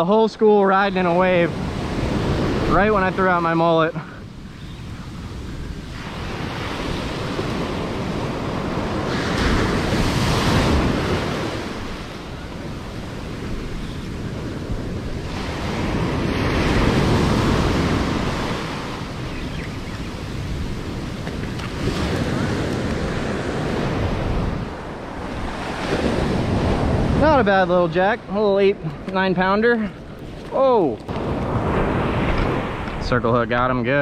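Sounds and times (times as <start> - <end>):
ocean surf breaking: 0.0 - 34.0
wind buffeting microphone: 0.9 - 34.0.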